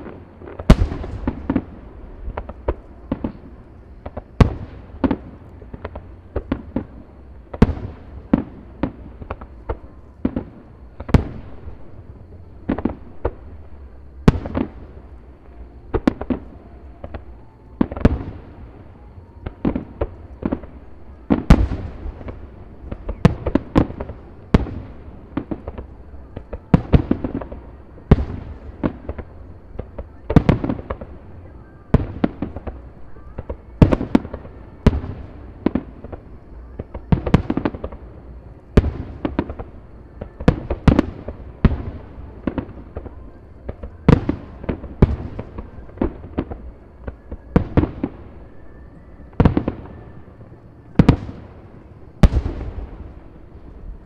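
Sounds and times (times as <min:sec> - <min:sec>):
fireworks booming: 0:00.0 - 0:54.0.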